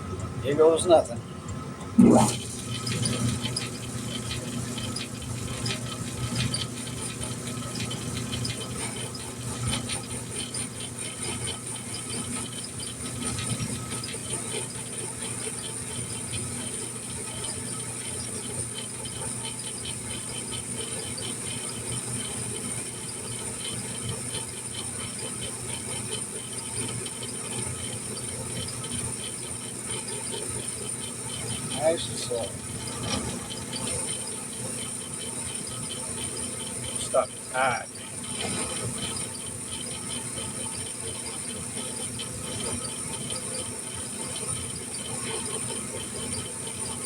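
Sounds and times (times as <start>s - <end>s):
metal lathe cutting metal: 0.1s - 47.0s.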